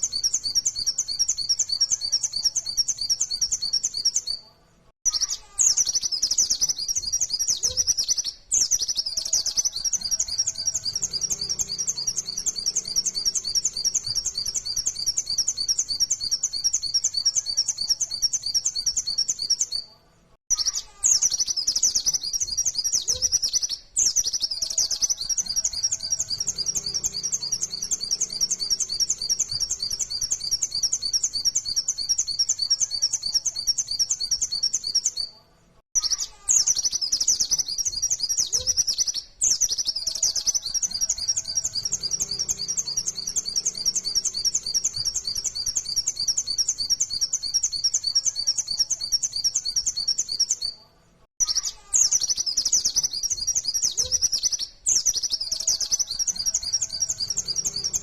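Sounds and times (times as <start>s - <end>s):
small bird singing rapid high notes: 0.0s - 19.9s, 20.5s - 35.3s, 35.9s - 50.8s, 51.4s - 58.0s.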